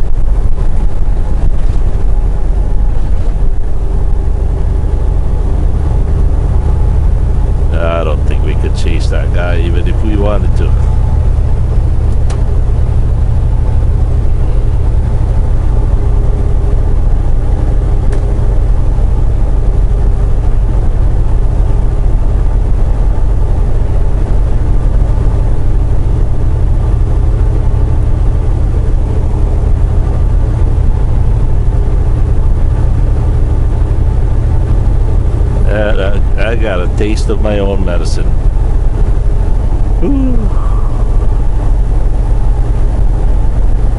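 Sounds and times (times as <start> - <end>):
road noise inside cab: 0.0 - 43.9
truck diesel engine drone: 0.0 - 43.9.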